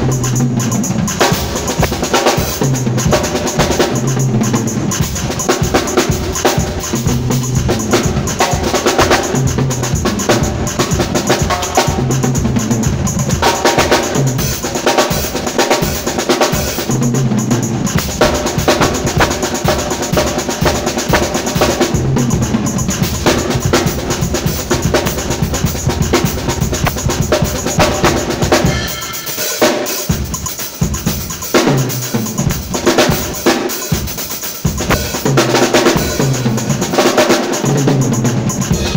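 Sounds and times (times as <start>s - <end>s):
drum kit playing a groove: 0.0s - 38.9s.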